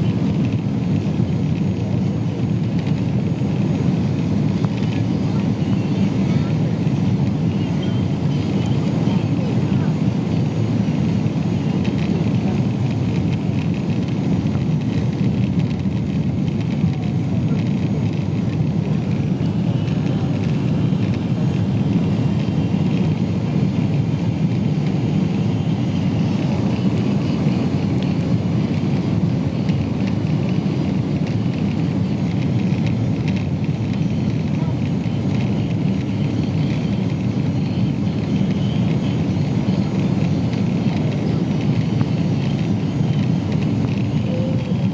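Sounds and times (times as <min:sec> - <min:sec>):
airplane engine and airflow rumble: 0:00.0 - 0:44.9.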